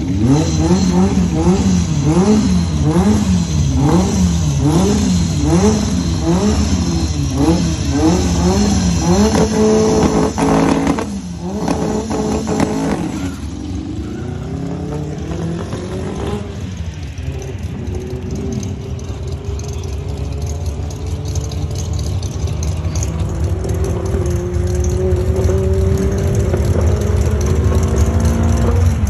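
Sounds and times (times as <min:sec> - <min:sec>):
car engine revving and accelerating: 0:00.0 - 0:29.0.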